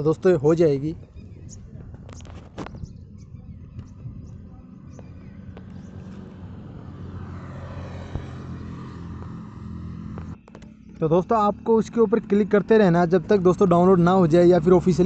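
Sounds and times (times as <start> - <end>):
vehicle low hum: 0.0 - 15.0.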